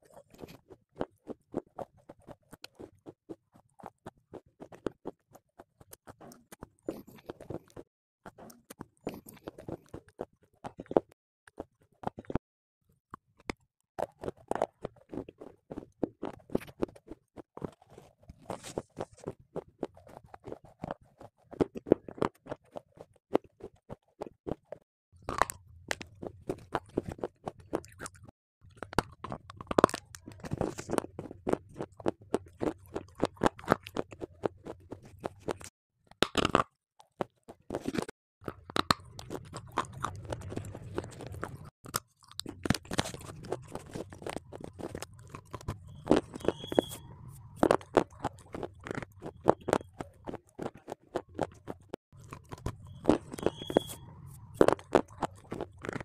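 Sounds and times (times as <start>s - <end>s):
crunching bites and chewing: 0.0s - 12.4s, 14.0s - 56.0s.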